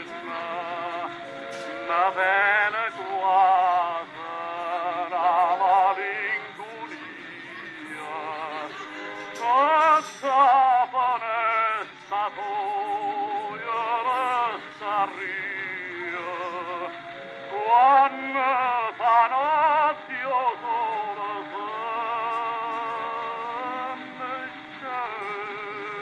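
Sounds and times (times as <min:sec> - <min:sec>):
background music: 0:00.0 - 0:26.0
operatic singing with vibrato: 0:00.0 - 0:26.0.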